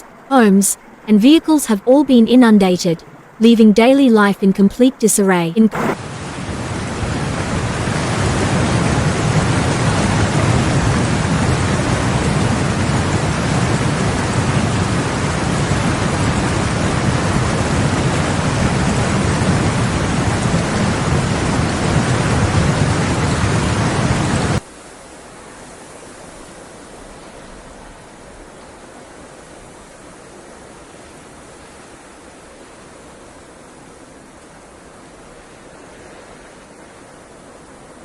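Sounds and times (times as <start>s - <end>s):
rushing floodwater: 5.9s - 38.0s.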